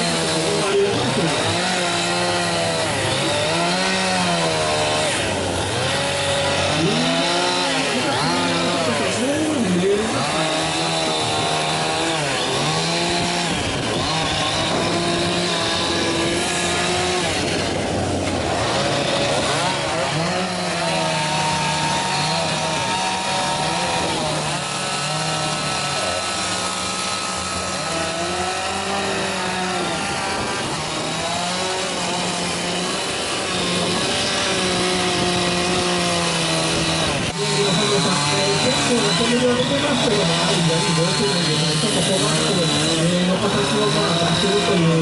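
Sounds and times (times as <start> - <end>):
chainsaw carving wood: 0.0 - 45.0.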